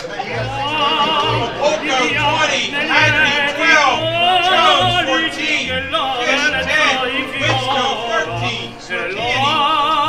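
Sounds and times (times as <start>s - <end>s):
operatic singing voice: 0.0s - 10.0s
low bass line: 0.3s - 10.0s.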